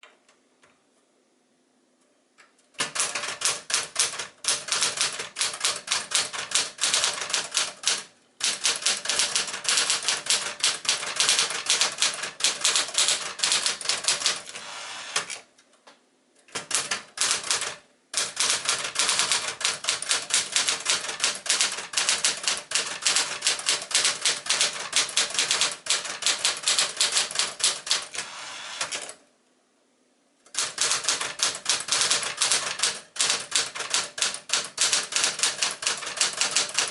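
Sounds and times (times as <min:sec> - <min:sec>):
manual typewriter typing: 0:02.8 - 0:15.5, 0:16.5 - 0:29.2, 0:30.5 - 0:36.9.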